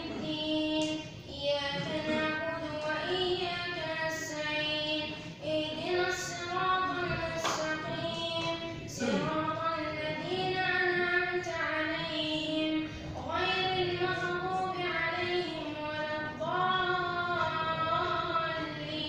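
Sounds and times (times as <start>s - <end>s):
boy chanting recitation: 0.0s - 19.0s.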